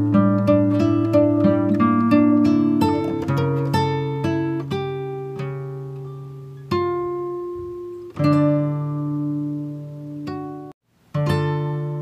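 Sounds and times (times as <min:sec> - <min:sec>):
plucked guitar: 0:00.0 - 0:12.0.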